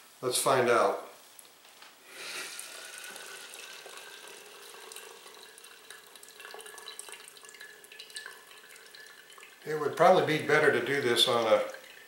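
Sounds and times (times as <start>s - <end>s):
coffee trickling into a cup: 2.3s - 12.0s.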